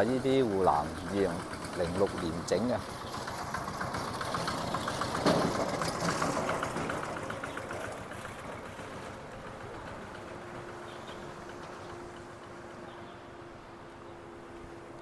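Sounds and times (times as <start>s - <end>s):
diesel tractor engine chugging: 0.0s - 14.8s.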